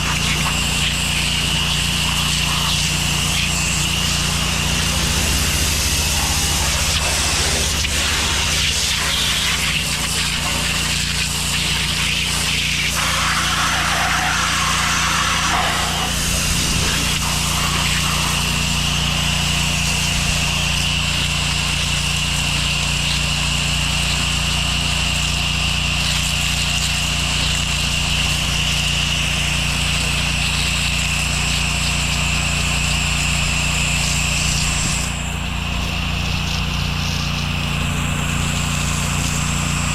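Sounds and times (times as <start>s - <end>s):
hissing water spray: 0.0s - 39.9s
pressure washer engine drone: 0.0s - 39.9s
steady high whine: 0.0s - 39.9s.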